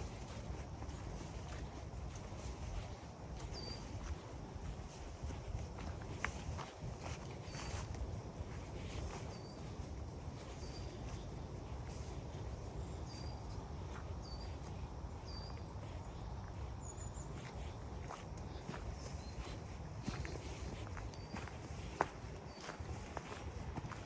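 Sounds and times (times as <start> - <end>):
footsteps on leaf litter: 0.0 - 14.7, 16.6 - 24.0
wind rumbling on microphone: 0.0 - 24.0.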